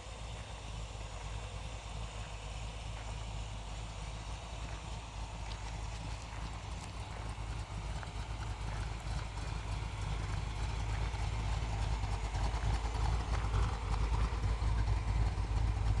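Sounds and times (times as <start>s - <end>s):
car engine idling unevenly: 0.0s - 16.0s.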